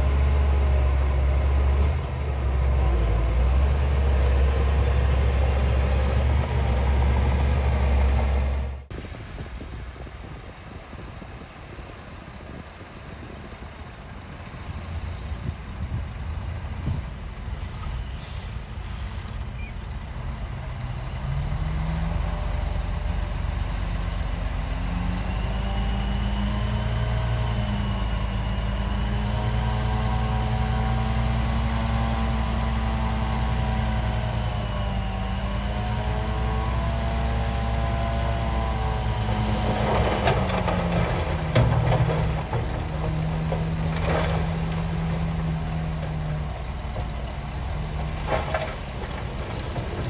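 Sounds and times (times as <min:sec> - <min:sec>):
diesel engine revving: 0:00.0 - 0:09.2, 0:14.5 - 0:50.0.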